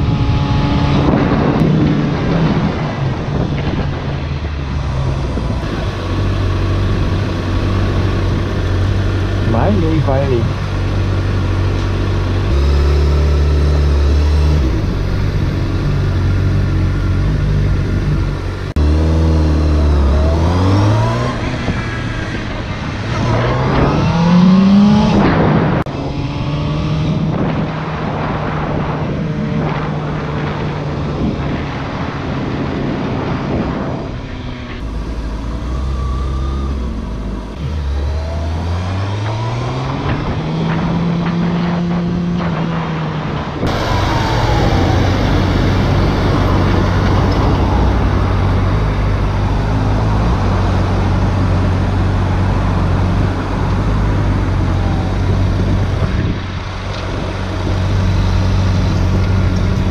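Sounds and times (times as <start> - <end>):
road and wind noise: 0.0 - 59.9.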